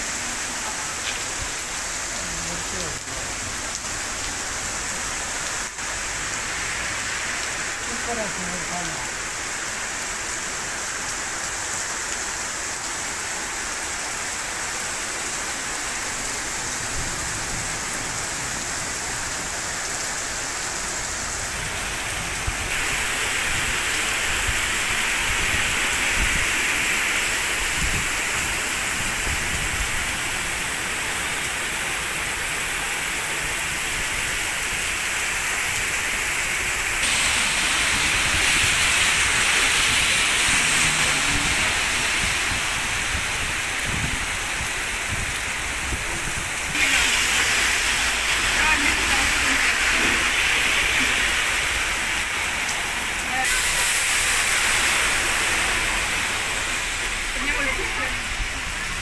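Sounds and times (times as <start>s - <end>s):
heavy rain hissing: 0.0s - 59.0s
cars splashing through water: 0.1s - 11.6s, 13.2s - 59.0s.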